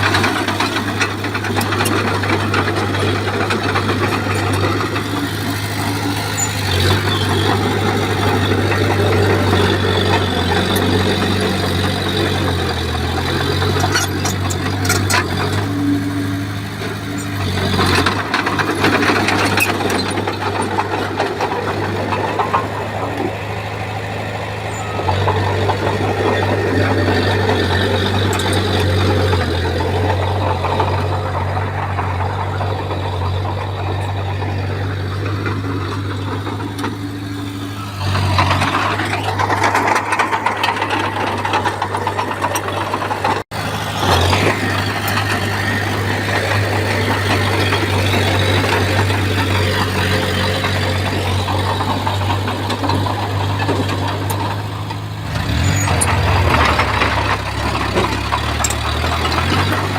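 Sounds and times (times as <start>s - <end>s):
heavy diesel machinery engine hum: 0.0s - 59.9s.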